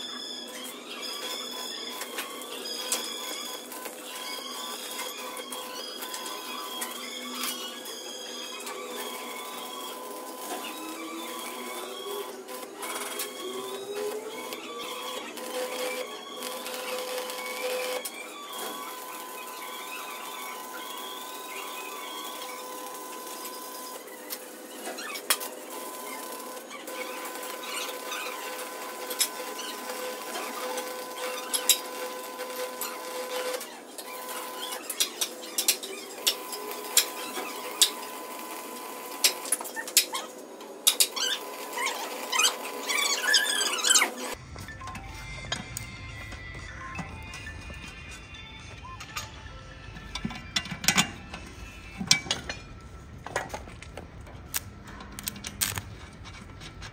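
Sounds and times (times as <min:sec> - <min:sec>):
machine whining: 0:00.0 - 0:56.9.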